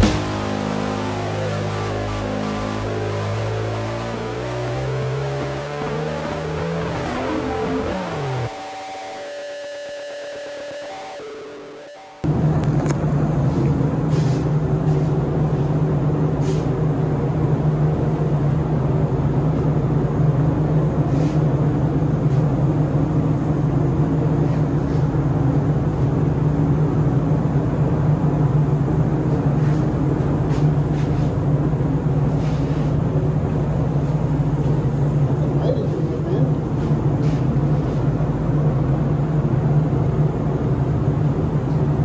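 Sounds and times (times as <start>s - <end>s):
machinery humming: 0.0s - 42.0s.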